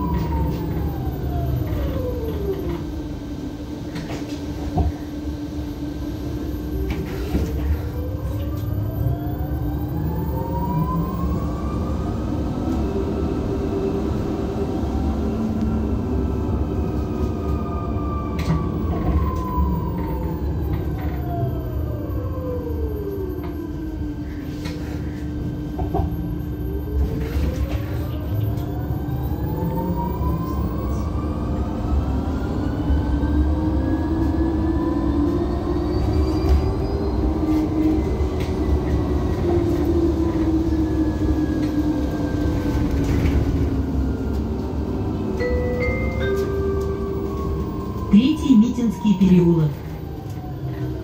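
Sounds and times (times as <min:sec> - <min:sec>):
electric bus drive whining: 0:00.0 - 0:51.0.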